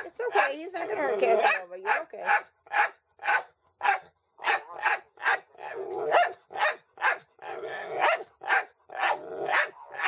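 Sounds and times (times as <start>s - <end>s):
dog barking: 0.0s - 10.0s.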